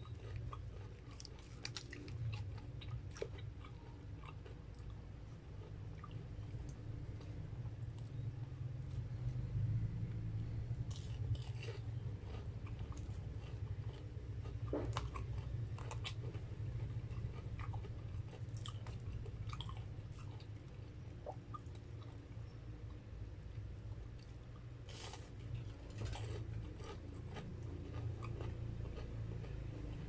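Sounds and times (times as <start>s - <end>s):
crunchy chewing: 0.0s - 30.0s
steady low hum: 0.0s - 30.0s.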